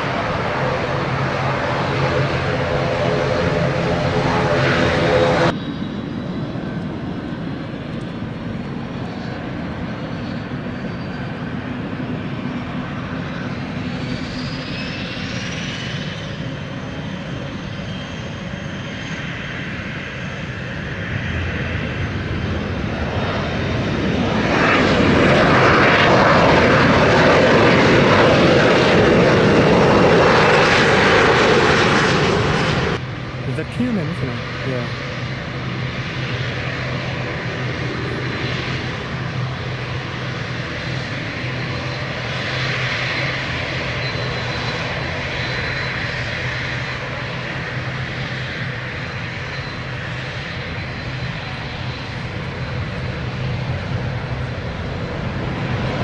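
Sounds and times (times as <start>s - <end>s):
jet engines whining: 0.0s - 56.0s
propeller aircraft engine drone: 0.0s - 56.0s.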